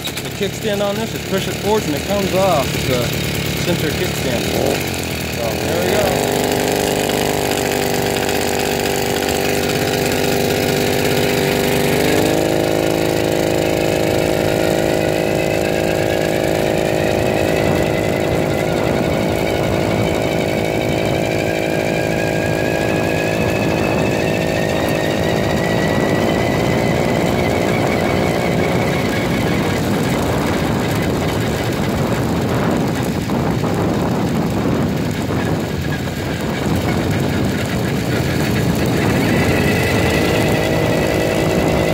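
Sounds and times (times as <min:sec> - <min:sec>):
small bicycle engine running: 0:00.0 - 0:41.9.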